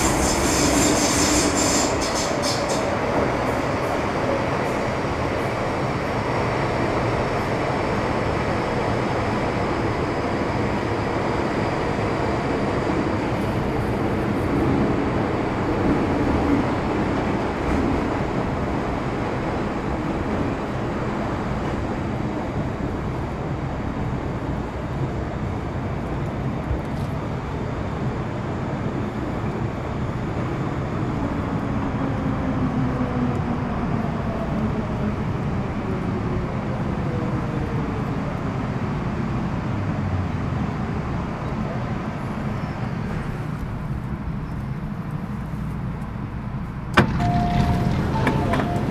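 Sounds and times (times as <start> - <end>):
train interior running noise: 0.0 - 48.9.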